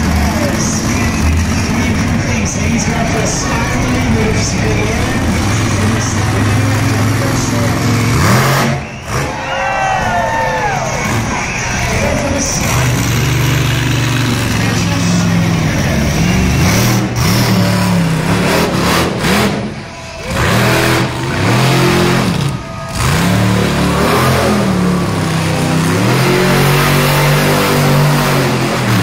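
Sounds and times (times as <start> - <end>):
monster truck engine revving: 0.0 - 29.0.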